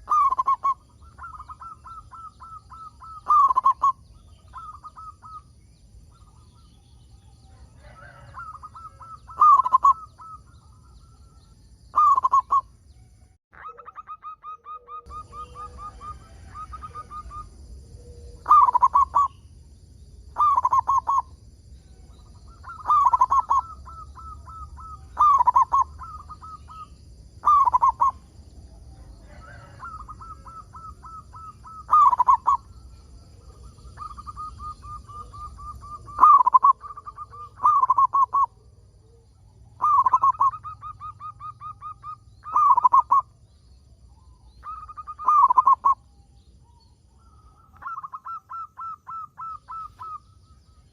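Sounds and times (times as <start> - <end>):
dove cooing: 0.0 - 12.7, 13.6 - 19.4, 20.3 - 21.4, 22.0 - 43.4, 44.1 - 50.9.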